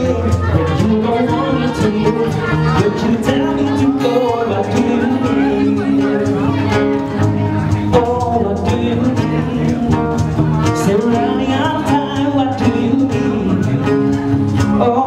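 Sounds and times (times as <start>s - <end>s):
acoustic guitar: 0.0s - 15.0s
bass guitar: 0.0s - 15.0s
person singing: 0.0s - 15.0s.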